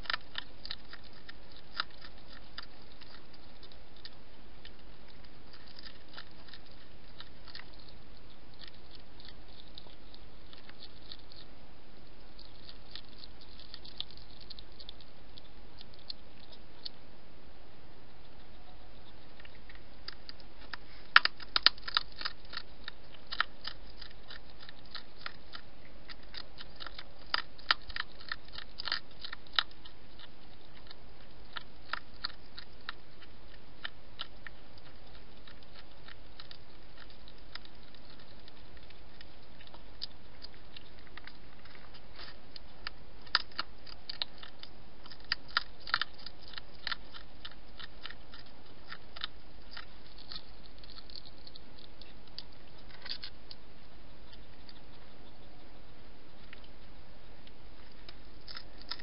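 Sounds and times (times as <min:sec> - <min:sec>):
hedgehog crunching food: 0:00.0 - 0:59.0.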